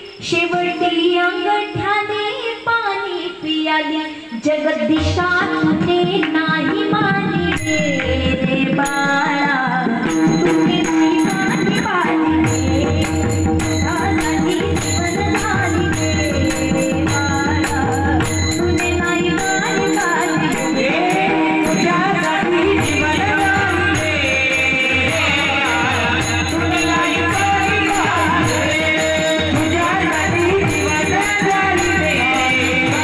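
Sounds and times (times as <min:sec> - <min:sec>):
woman singing into a microphone: 0:00.0 - 0:33.0
hand drum rhythm: 0:05.0 - 0:33.0
small hand cymbals: 0:05.0 - 0:33.0.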